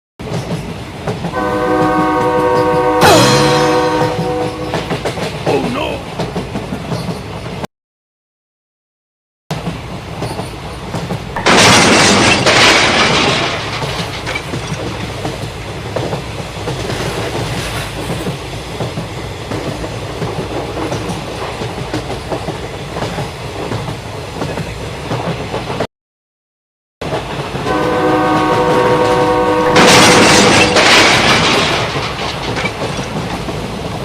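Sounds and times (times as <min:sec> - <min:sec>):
train rattling rumble: 0:00.2 - 0:07.6, 0:09.5 - 0:25.9, 0:27.0 - 0:34.0.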